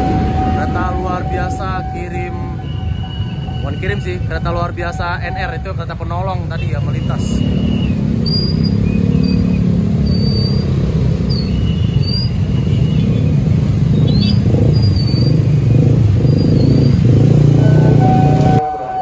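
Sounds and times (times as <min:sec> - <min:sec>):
motorcycles and scooters rumbling: 0:00.0 - 0:19.0.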